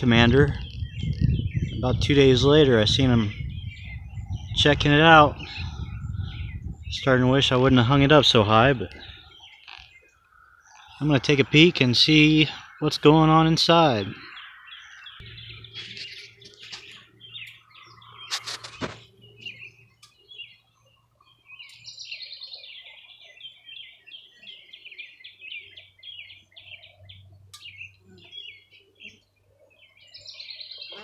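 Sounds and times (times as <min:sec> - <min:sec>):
songbirds chirping and singing: 0:00.0 - 0:31.0.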